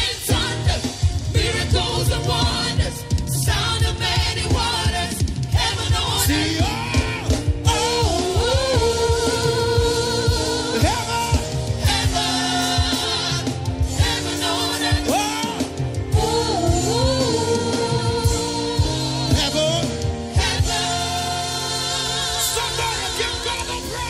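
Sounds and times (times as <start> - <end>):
instrumental backing with steady beat: 0.0 - 24.0.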